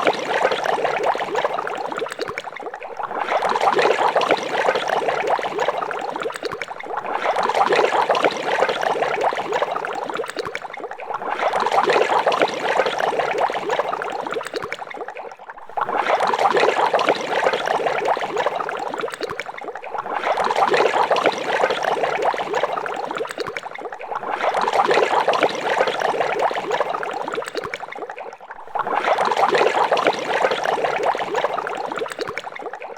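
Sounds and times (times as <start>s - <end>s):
water boiling in a pot: 0.0s - 32.9s.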